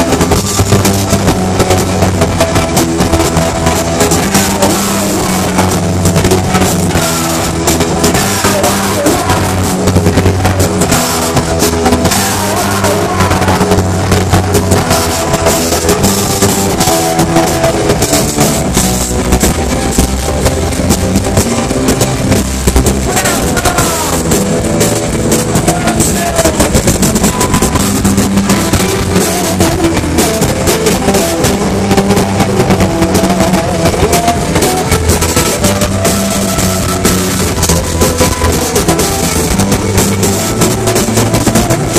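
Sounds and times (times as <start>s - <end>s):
live rock band playing: 0.0s - 41.9s
pounding drum kit: 0.0s - 41.9s.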